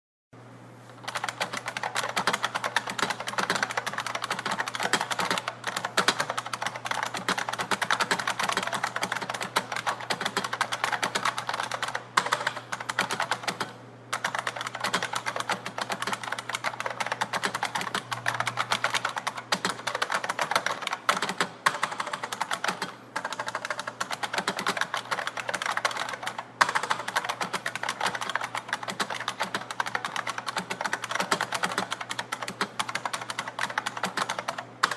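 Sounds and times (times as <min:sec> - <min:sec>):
fast keyboard typing: 0:01.0 - 0:34.9.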